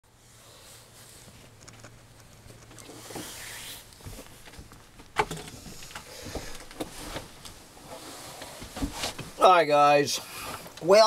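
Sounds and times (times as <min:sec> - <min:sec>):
soft rustle: 0:00.1 - 0:09.5.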